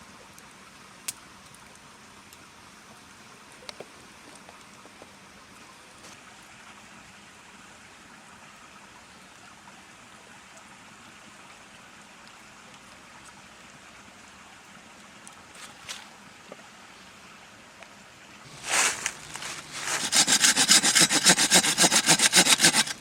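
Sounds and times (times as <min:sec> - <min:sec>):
faint flowing water: 0:00.0 - 0:23.0.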